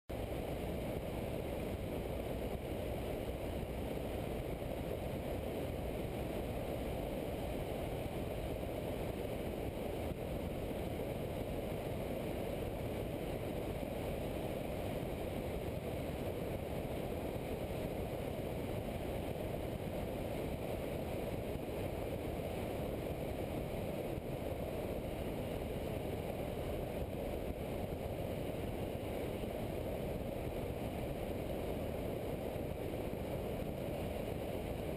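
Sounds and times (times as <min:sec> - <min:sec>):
airplane engine and airflow: 0:00.1 - 0:34.9.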